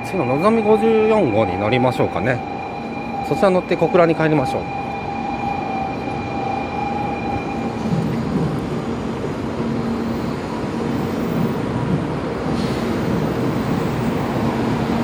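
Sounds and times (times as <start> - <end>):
train station platform rumble: 0.0 - 15.0.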